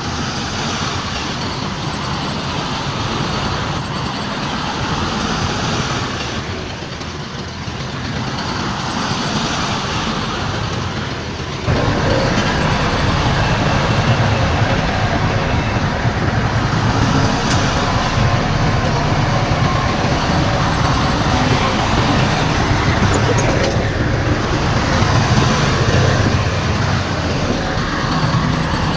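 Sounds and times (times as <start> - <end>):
heavy diesel machinery rumbling: 0.0 - 28.9.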